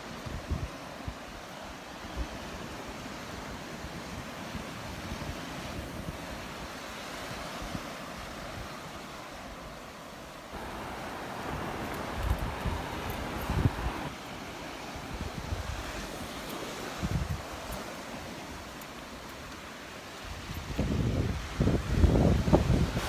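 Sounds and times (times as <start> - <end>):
wind rumbling on microphone: 0.0 - 9.7, 10.5 - 19.6, 20.2 - 23.0
surf washing onto beach: 0.0 - 23.0.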